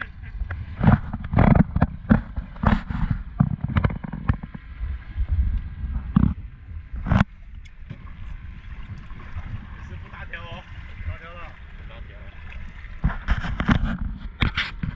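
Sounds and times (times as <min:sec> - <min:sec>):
low rumble: 0:00.0 - 0:13.3.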